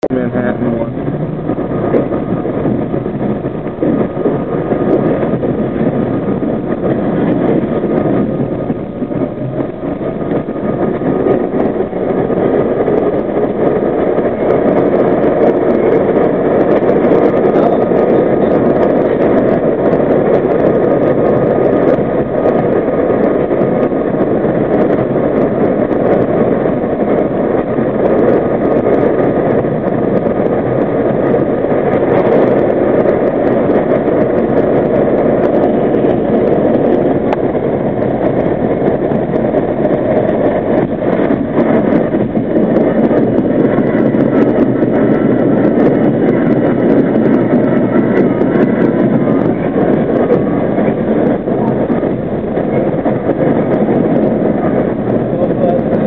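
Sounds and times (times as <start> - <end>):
subway car rumbling on rails: 0.0 - 56.0.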